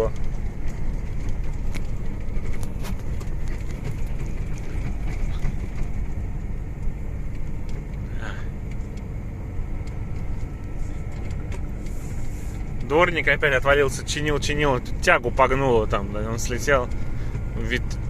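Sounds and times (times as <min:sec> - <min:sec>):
truck cab rumble: 0:00.0 - 0:18.0.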